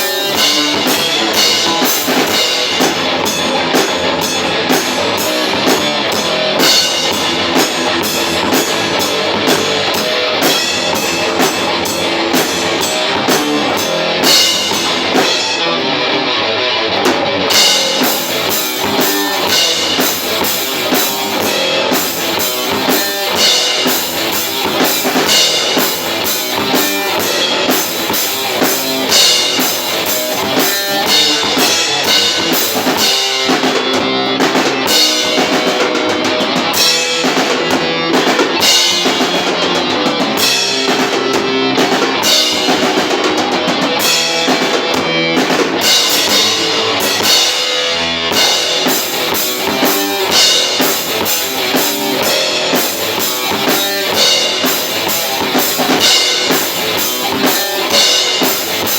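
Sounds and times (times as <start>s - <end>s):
metal band playing: 0.0s - 58.9s.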